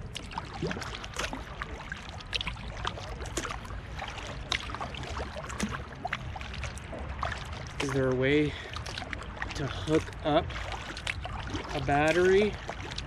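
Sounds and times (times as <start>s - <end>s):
kayak paddle splashing in water: 0.0s - 13.0s
water dripping: 0.0s - 13.0s.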